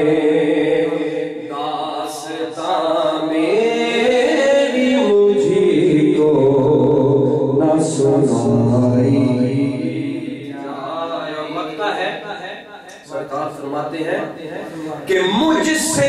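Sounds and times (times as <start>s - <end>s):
man singing with held notes: 0.0s - 12.1s, 14.6s - 16.0s.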